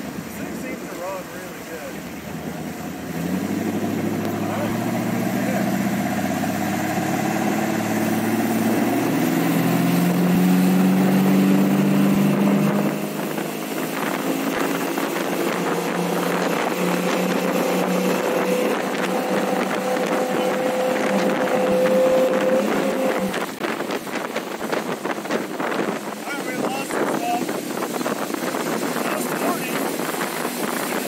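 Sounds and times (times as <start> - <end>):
boat engine running under throttle: 0.0 - 31.0
wind and water rushing: 0.0 - 31.0.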